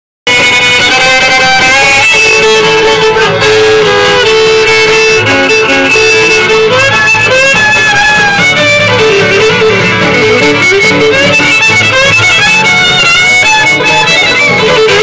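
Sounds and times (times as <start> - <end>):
bluegrass band playing: 0.3 - 15.0
fiddle melody: 0.3 - 15.0.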